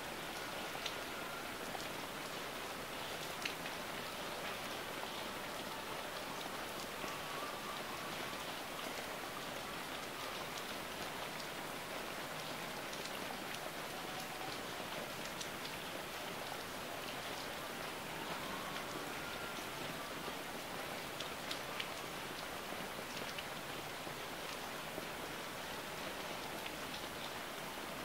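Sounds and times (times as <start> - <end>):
rain falling on foliage: 0.0 - 28.0.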